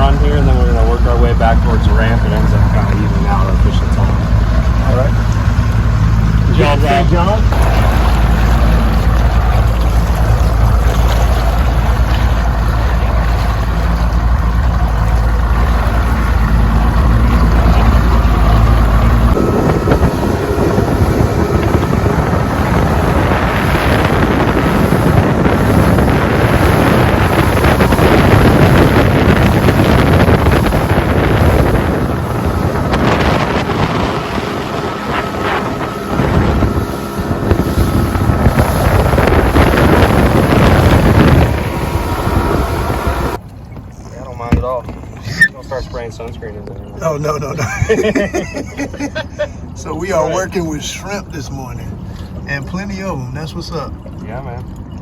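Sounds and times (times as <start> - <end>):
wind on microphone: 0.0 - 45.6
outboard motor running: 0.0 - 55.0.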